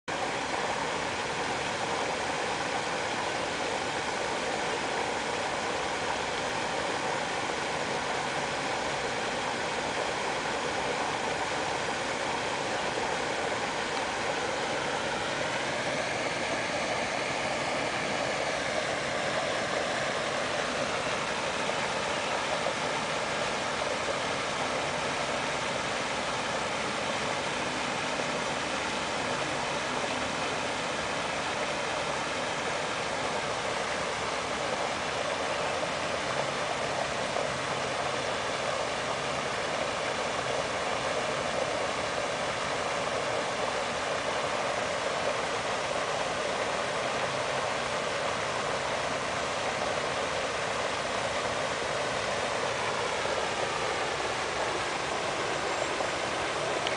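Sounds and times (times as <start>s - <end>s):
faint humming tones: 0.1s - 56.9s.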